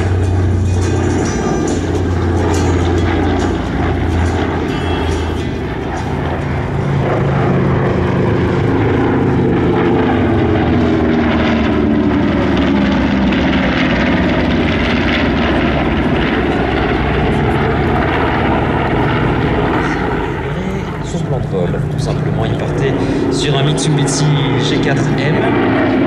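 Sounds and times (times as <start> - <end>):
propeller planes droning past: 0.0 - 26.0.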